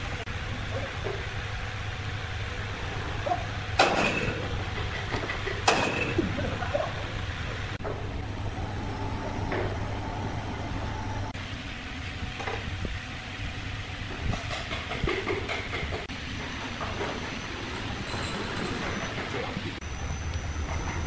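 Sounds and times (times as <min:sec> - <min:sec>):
sawmill machinery humming: 0:00.0 - 0:21.0.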